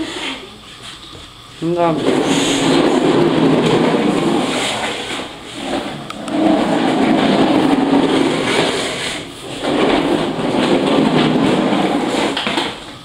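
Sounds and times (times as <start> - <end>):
plastic wheels rolling on wooden floor: 1.9 - 13.0.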